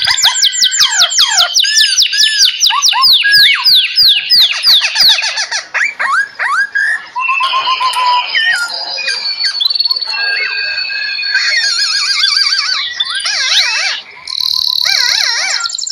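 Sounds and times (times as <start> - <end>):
songbirds singing: 0.0 - 15.9.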